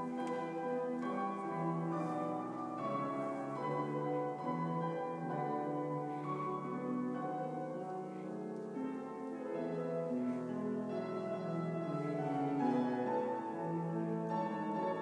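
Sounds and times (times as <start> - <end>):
grand piano classical music: 0.0 - 15.0.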